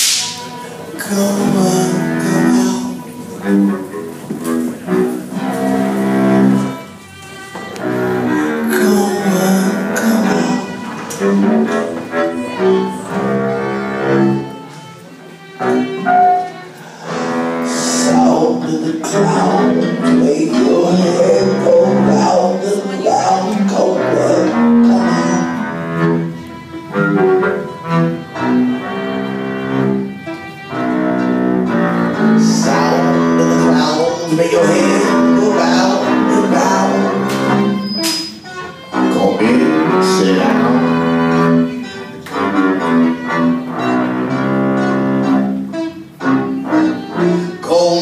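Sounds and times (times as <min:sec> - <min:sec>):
bowed strings playing held notes: 0:00.0 - 0:48.0
instrumental cabaret music: 0:00.0 - 0:48.0.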